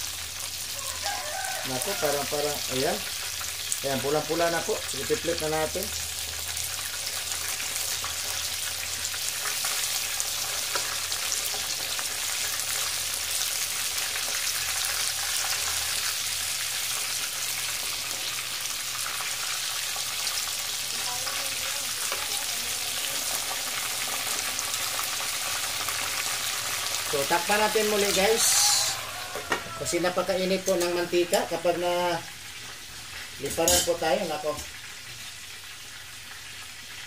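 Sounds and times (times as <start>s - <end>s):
deep-frying in hot oil: 0.0s - 37.0s.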